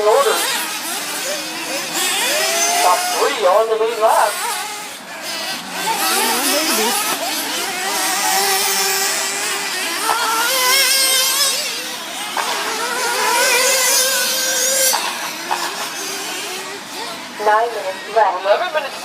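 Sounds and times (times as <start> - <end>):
rc buggy motors whining: 0.0 - 19.0.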